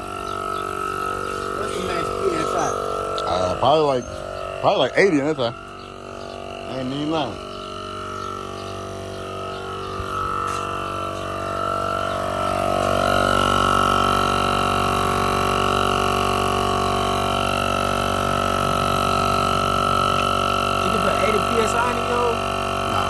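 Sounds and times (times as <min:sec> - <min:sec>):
droning motor: 0:00.0 - 0:23.0.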